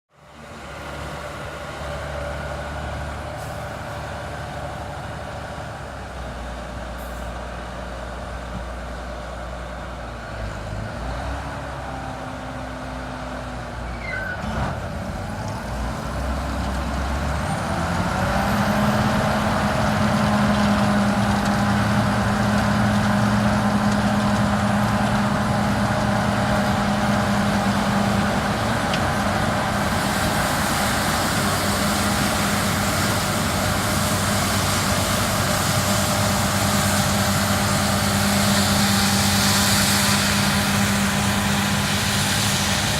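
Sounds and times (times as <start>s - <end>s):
combine harvester engine drone: 0.1s - 42.9s.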